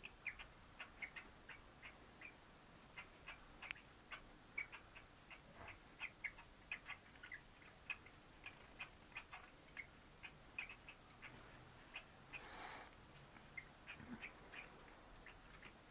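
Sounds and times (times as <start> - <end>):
cockatiels chirping: 0.0 - 12.7, 13.4 - 15.9.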